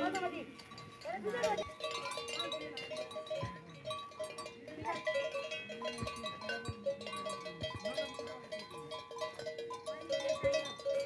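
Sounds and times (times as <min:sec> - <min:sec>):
bell clank: 0:00.0 - 0:11.0
cattle bells ringing: 0:00.0 - 0:11.0.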